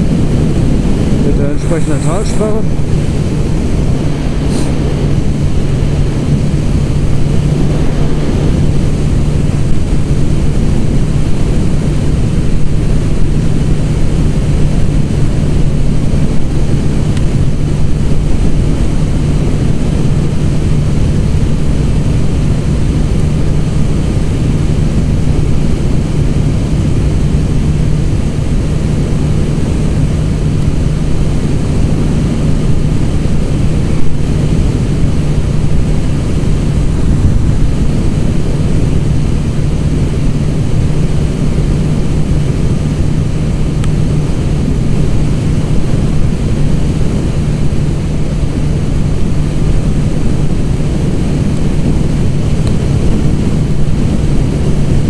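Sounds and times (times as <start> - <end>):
motorcycle engine cruising: 0.0 - 55.0
wind rushing on microphone: 0.0 - 55.0.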